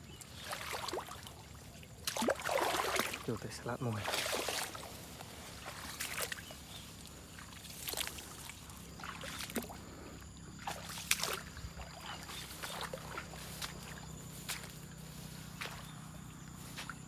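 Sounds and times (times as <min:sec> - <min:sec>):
footsteps through tall grass: 0:00.2 - 0:17.0.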